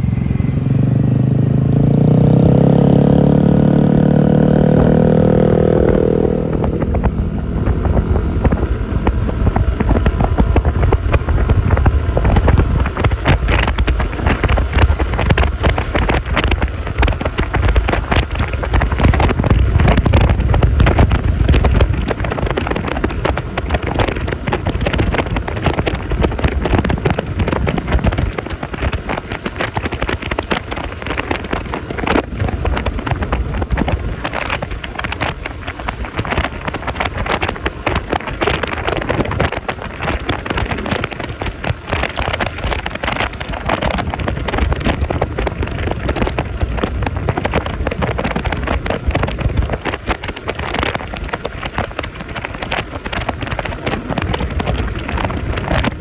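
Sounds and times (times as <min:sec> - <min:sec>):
scooter engine and road noise: 0:00.0 - 0:56.0
wind buffeting microphone: 0:00.0 - 0:56.0.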